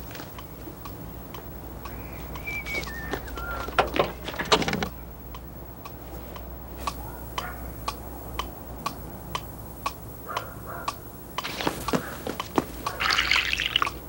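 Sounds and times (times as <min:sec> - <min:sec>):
steady ticking: 0:00.0 - 0:04.2, 0:04.8 - 0:13.0.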